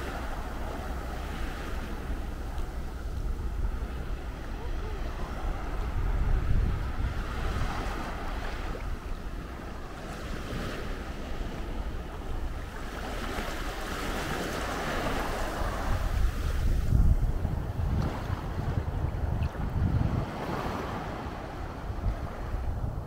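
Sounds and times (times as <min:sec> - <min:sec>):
small waves breaking on beach: 0:00.0 - 0:23.0
wind rumbling on microphone: 0:00.0 - 0:23.0.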